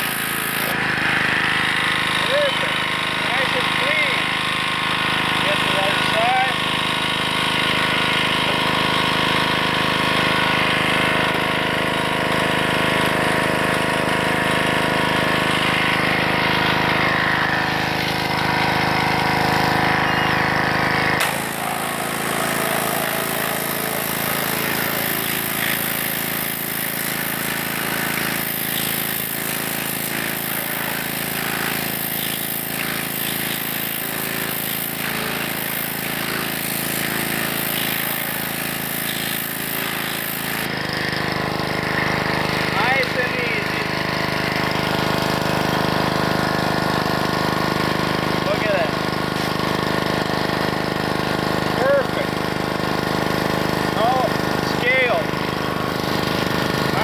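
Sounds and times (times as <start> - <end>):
hissing water jet: 0.0 - 45.8
pressure washer running: 0.0 - 57.0.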